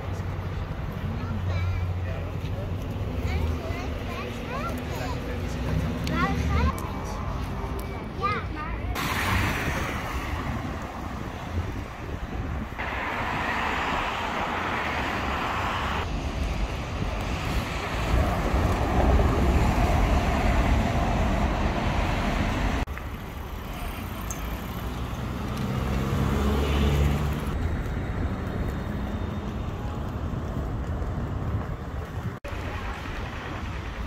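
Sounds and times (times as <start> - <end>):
bus passing: 0.0 - 34.0
road traffic rumble: 0.0 - 34.0.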